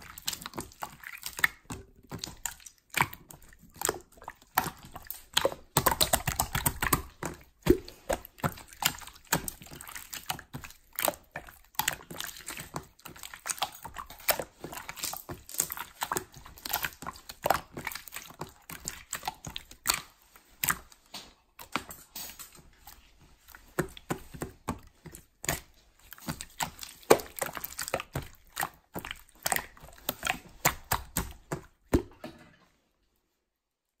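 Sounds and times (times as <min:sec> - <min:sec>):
slime squished by hand: 0:00.0 - 0:32.3.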